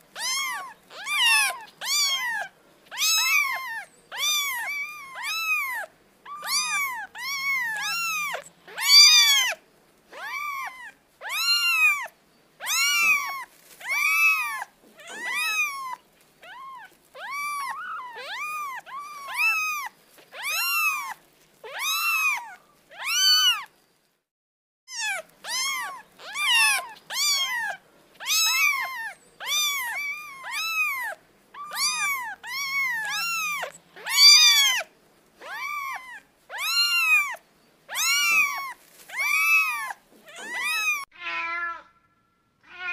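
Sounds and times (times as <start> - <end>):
kitten meowing: 0.1 - 23.7, 24.9 - 42.0, 42.6 - 42.9.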